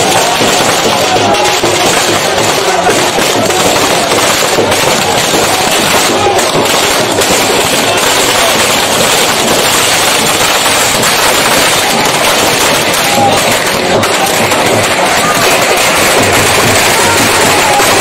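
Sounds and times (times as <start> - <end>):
crowd voices: 0.0 - 18.0
firecrackers crackling and popping: 0.0 - 18.0.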